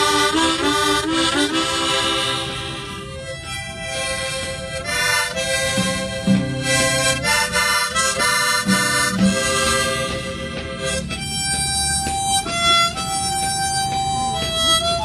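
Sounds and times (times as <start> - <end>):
free-reed instrument melody: 0.0 - 15.0
lower accompaniment: 0.0 - 15.0.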